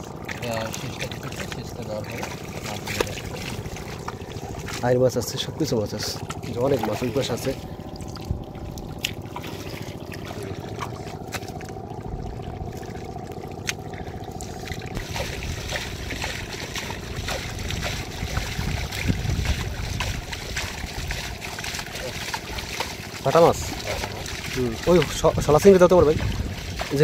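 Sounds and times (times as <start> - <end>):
small clicks and splashes: 0.0 - 27.0
water trickling over mud: 0.0 - 27.0.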